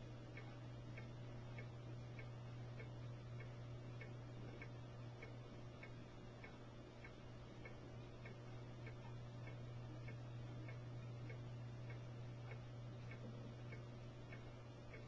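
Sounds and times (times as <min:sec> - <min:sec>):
faint regular ticking: 0:00.0 - 0:15.0
low hum: 0:00.0 - 0:15.0.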